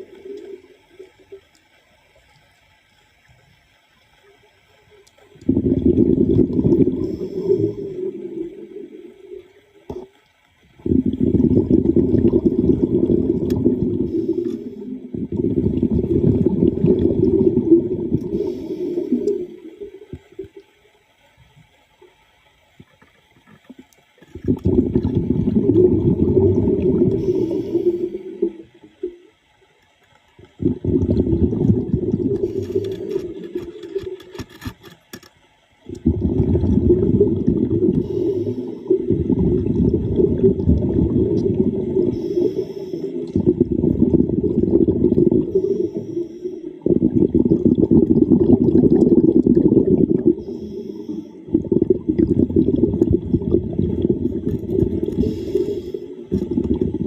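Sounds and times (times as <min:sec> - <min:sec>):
water bubbling underwater: 0:00.0 - 0:01.6, 0:05.0 - 0:21.6, 0:22.8 - 0:29.4, 0:30.3 - 0:34.5, 0:35.8 - 0:57.0.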